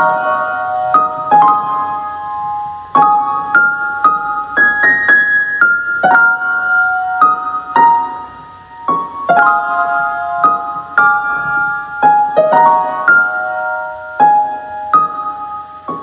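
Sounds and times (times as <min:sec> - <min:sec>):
gentle keyboard melody: 0:00.0 - 0:16.0.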